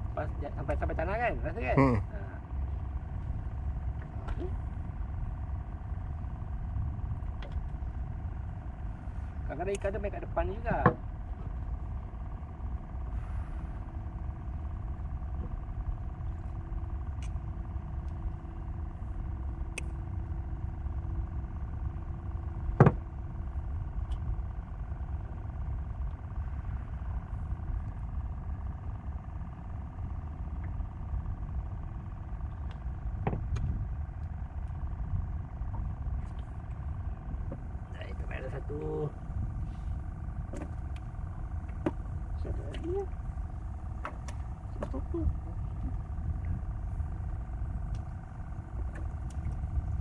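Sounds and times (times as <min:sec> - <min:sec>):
faint even hum: 0:00.0 - 0:50.0
steady low rumble: 0:00.0 - 0:50.0.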